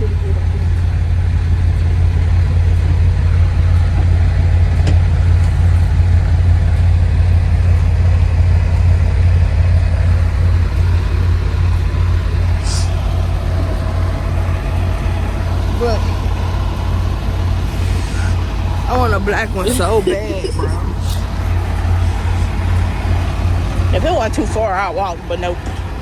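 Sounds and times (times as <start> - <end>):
diesel truck engine drone: 0.0 - 26.0.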